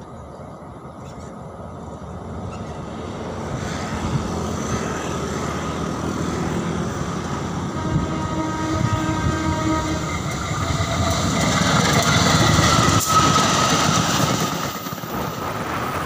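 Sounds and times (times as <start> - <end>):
locomotive rumbling: 0.0 - 16.0.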